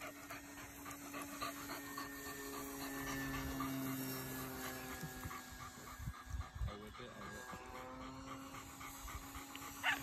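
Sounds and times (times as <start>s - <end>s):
distant engine hum: 0.0s - 10.0s
lower engine tone: 0.0s - 10.0s.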